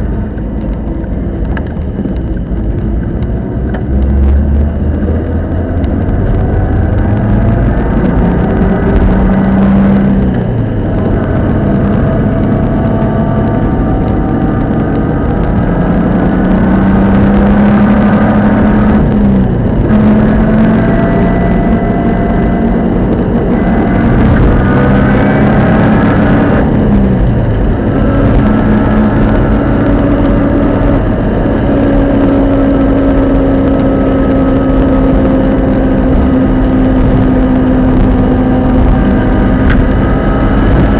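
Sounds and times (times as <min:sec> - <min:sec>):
car engine revving through gears: 0:00.0 - 0:40.9
drivetrain noise: 0:00.0 - 0:40.9.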